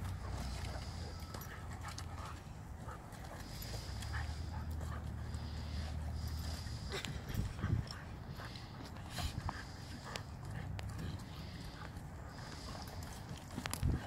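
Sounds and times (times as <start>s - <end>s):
dogs play-growling: 0.0s - 14.0s.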